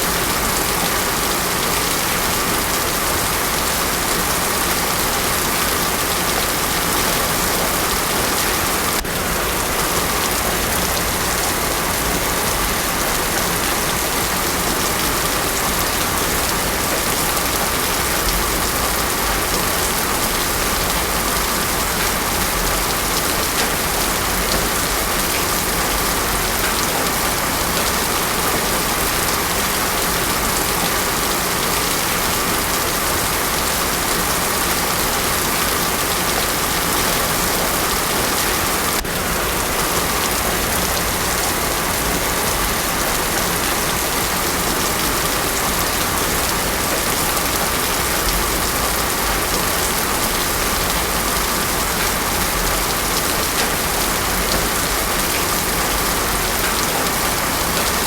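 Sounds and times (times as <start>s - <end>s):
heavy rain on road: 0.0s - 58.0s.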